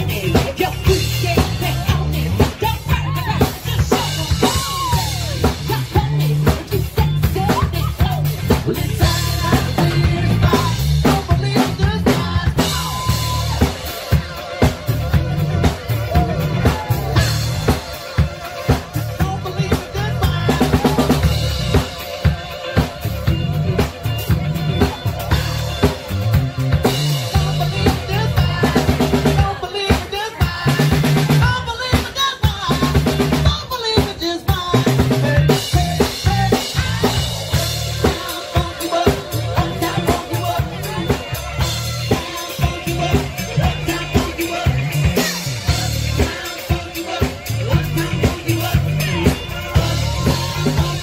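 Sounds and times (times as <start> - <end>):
music with drum beat and heavy bass: 0.0 - 51.0.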